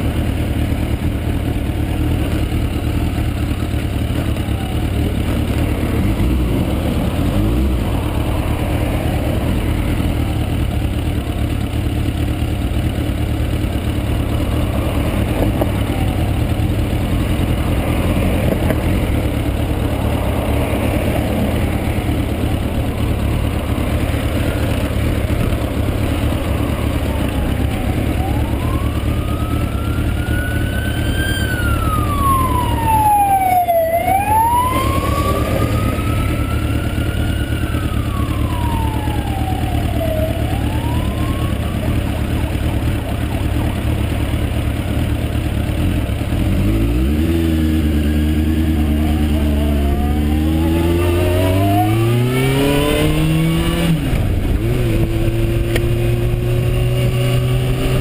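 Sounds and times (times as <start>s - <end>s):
motorcycle engine idling and revving: 0.0s - 58.0s
siren wailing: 4.1s - 11.2s, 13.8s - 43.8s, 47.5s - 58.0s.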